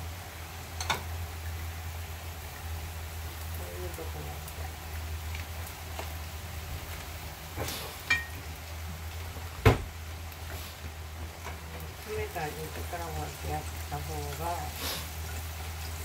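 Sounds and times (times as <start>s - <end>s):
low hum and faint hiss: 0.0s - 16.0s.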